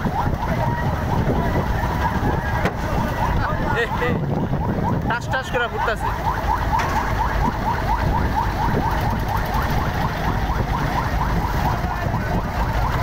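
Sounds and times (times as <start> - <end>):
chirping siren alarm: 0.0 - 13.0
steady low rumble: 0.0 - 13.0.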